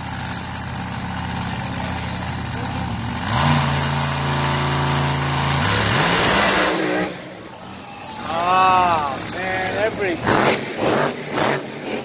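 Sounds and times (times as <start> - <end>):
drag racing car engine revving: 0.0 - 12.0.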